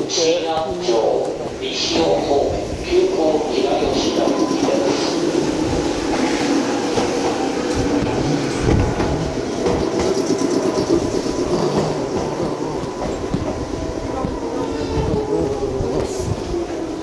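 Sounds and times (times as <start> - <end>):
electric train running: 1.9 - 17.0.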